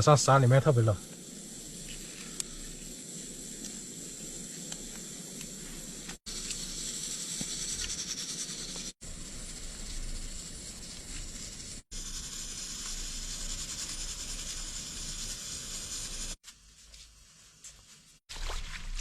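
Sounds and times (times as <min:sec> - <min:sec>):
hiss of cooking on stove: 0:00.0 - 0:16.5.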